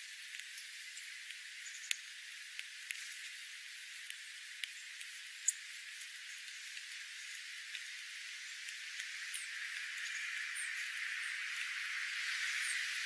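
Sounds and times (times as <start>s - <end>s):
steady hiss: 0.0s - 13.0s
birds pecking on gravel: 0.1s - 13.0s.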